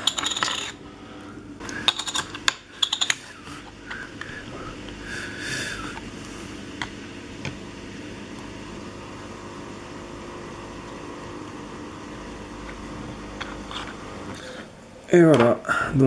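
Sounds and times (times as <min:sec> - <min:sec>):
low hum: 0:00.0 - 0:15.1.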